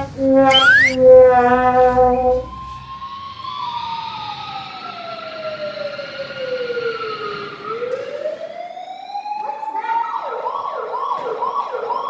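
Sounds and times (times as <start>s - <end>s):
fire engine siren wailing: 0.5s - 1.0s, 2.0s - 12.0s.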